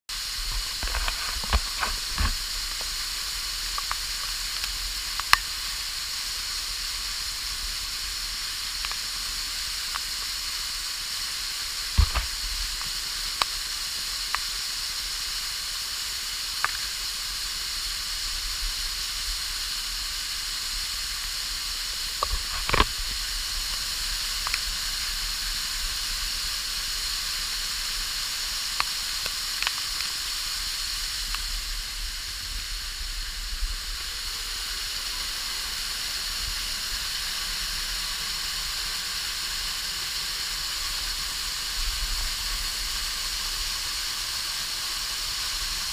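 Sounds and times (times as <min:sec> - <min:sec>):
waterfall rushing hiss: 0:00.1 - 0:45.9.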